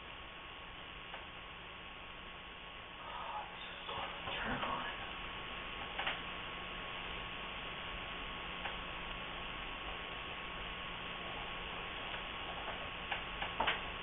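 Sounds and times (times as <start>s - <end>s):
low mains hum: 0.0s - 14.0s
radio hiss: 0.0s - 14.0s.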